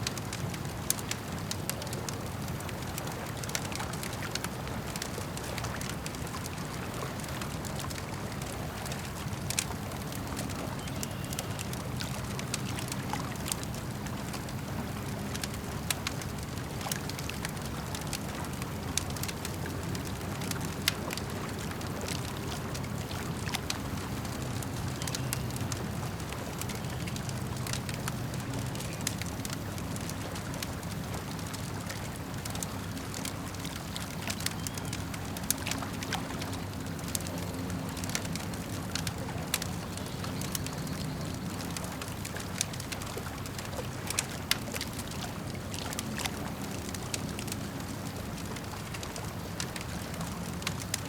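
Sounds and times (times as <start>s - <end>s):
campfire crackling and popping: 0.0s - 51.0s
lake water lapping: 0.0s - 51.0s
wind: 0.0s - 51.0s.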